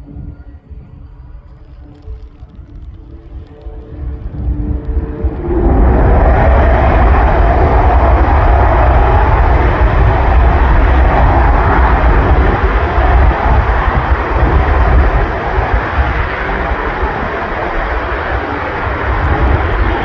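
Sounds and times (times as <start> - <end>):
propeller aircraft engines roaring: 1.1 - 20.0.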